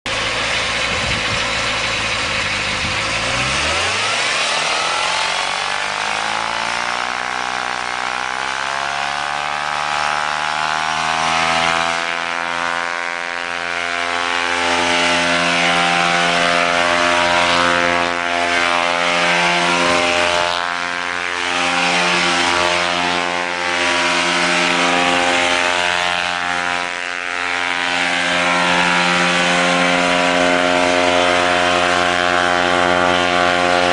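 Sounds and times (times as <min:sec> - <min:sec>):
propeller aircraft engine: 0:00.0 - 0:33.9.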